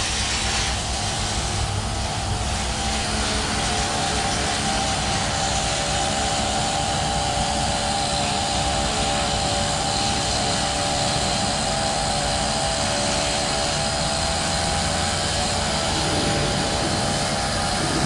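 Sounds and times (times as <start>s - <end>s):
outboard motor droning: 0.0s - 18.0s.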